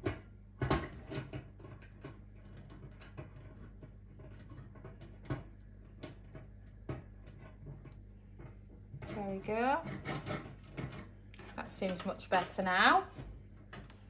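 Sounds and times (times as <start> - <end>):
low steady hum: 0.0 - 14.0
wire racks clicking and clinking: 0.0 - 14.0.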